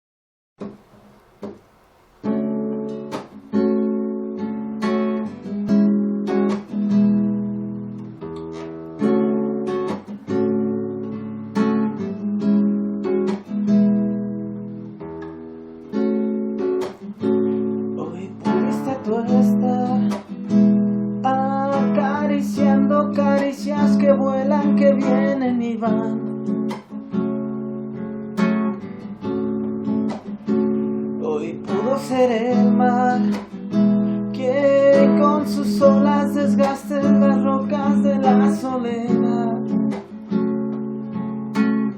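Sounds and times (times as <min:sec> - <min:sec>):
acoustic guitar strumming and picking: 0:00.6 - 0:41.9.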